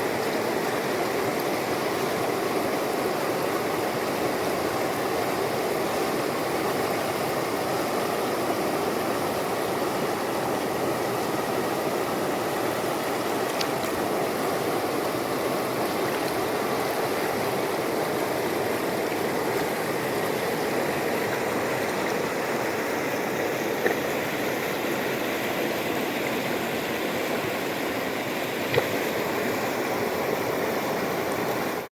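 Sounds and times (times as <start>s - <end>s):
river water rushing: 0.0s - 31.9s.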